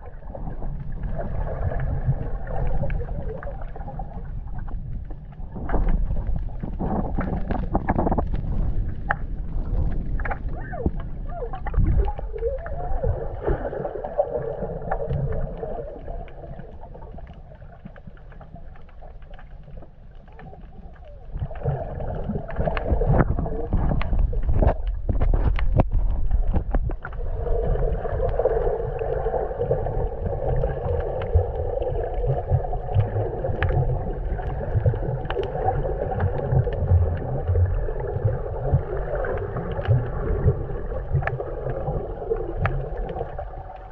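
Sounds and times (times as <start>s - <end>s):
underwater rumble of moving water: 0.0s - 43.9s.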